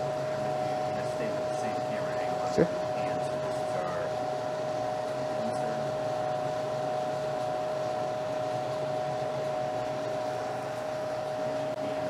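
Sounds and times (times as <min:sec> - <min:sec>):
constant pitched hum: 0:00.0 - 0:12.0
fan whirring: 0:00.0 - 0:12.0.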